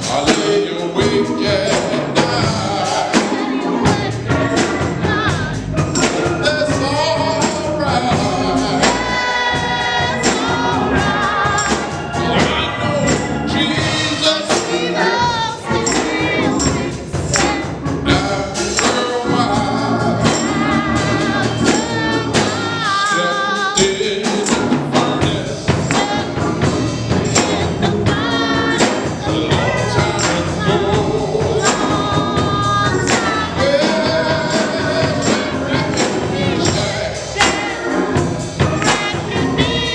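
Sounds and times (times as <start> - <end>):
gospel singing: 0.0 - 39.9
percussion beat: 0.0 - 39.9.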